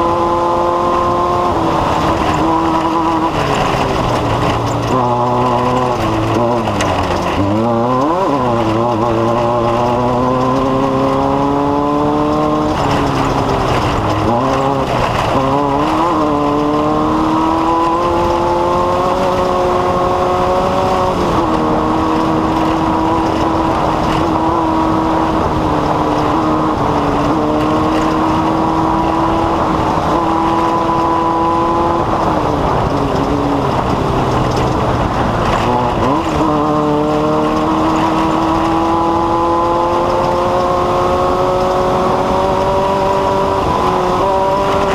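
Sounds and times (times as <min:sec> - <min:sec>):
race vehicle engine under load: 0:00.0 - 0:44.9
road and rattle noise: 0:00.0 - 0:44.9.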